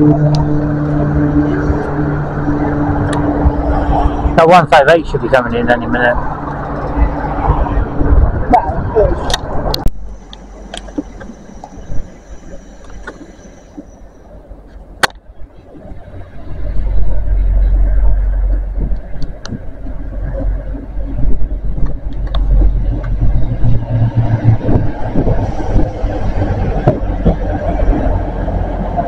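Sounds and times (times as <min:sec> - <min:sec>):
diesel train rumbling on rails: 0:00.0 - 0:29.0.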